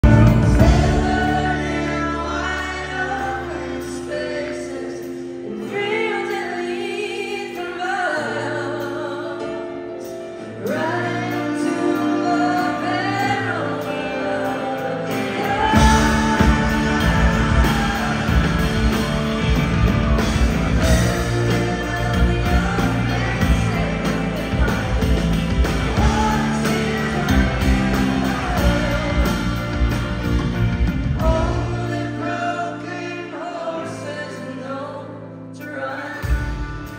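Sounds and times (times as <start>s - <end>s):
electric guitar chords: 0.0s - 36.9s
live rock band playing: 0.0s - 36.9s
person singing: 0.0s - 36.9s.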